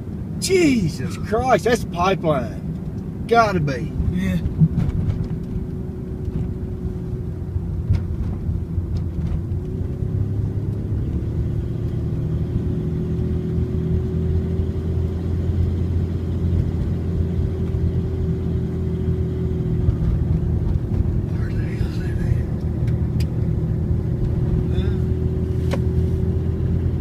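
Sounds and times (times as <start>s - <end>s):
car engine and road drone: 0.0s - 27.0s.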